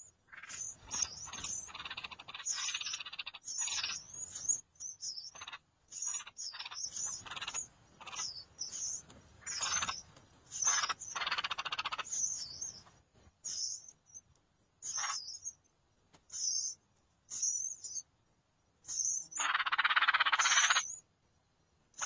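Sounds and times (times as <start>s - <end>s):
nestlings cheeping: 0.3s - 15.7s, 16.3s - 18.1s, 18.8s - 21.0s.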